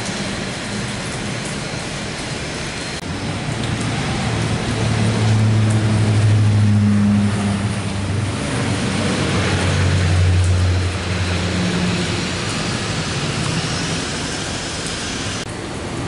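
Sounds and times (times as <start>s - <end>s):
propeller drone: 0.0s - 16.0s.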